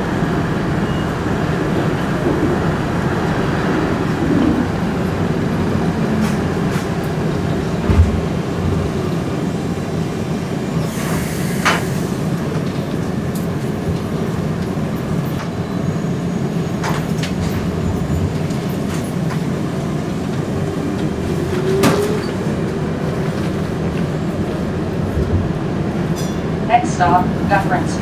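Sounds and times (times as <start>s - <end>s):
streetcar low rumble: 0.0s - 28.0s.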